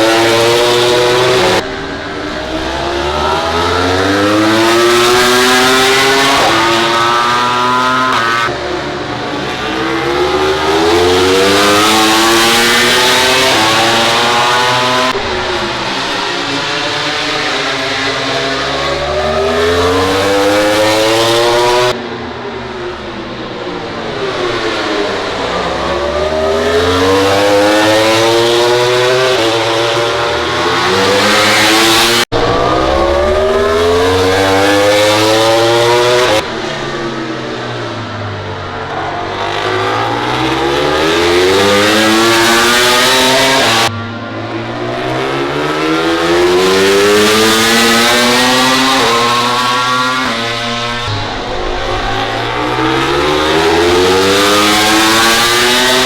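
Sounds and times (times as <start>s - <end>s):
racing motorcycles revving: 0.0s - 56.0s.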